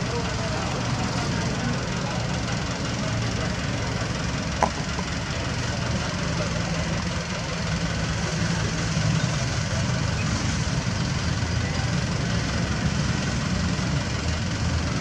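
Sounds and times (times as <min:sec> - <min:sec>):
truck engine rumbling at low revs: 0:00.0 - 0:15.0.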